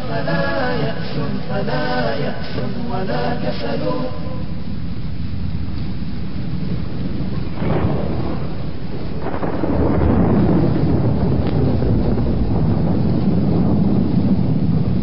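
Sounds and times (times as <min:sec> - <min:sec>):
loud rumbling rush of noise: 0:00.0 - 0:15.0.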